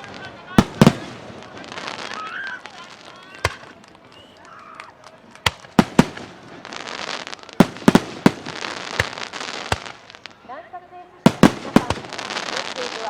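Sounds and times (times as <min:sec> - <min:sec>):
dense crackle of fireworks: 0:00.0 - 0:13.0
fireworks bangs: 0:00.0 - 0:13.0.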